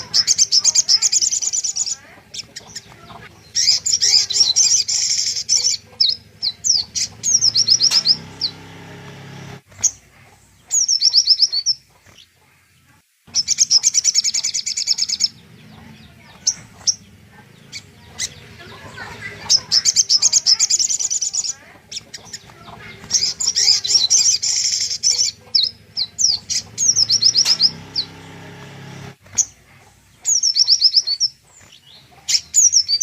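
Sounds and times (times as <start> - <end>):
songbird trilling: 0.0 - 10.0, 13.3 - 29.6, 30.2 - 33.0.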